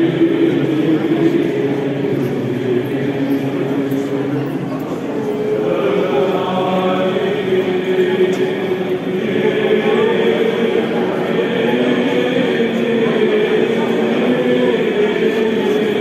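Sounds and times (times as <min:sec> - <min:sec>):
choir chanting: 0:00.0 - 0:04.4, 0:05.4 - 0:16.0.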